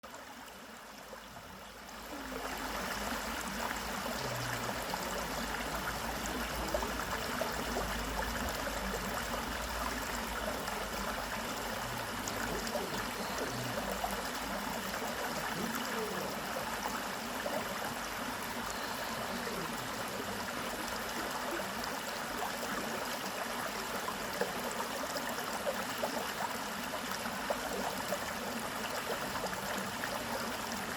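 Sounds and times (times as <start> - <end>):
stream water flowing: 0.0 - 30.9.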